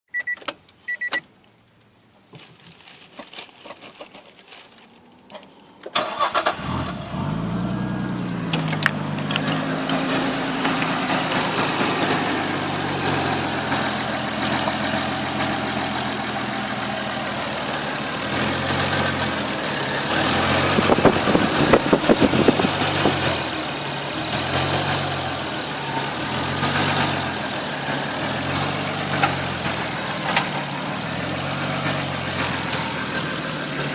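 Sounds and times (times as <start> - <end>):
car engine starting and idling: 4.9 - 33.9.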